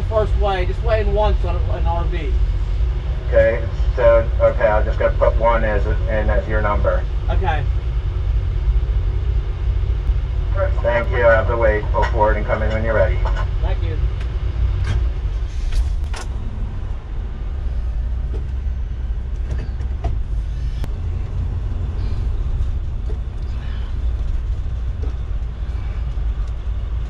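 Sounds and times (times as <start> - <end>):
motorhome engine idling: 0.0 - 27.0.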